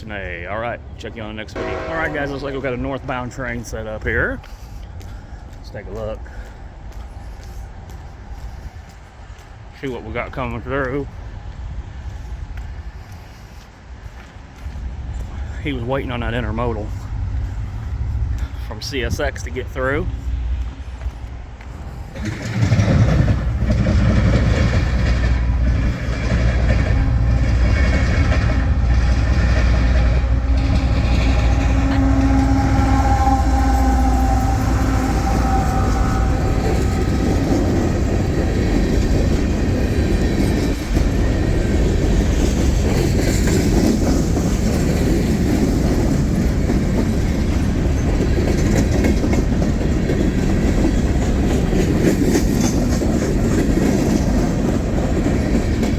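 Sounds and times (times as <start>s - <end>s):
diesel locomotive engines rumbling: 0.0s - 55.9s
train wheels clacking on rail joints: 1.6s - 55.9s.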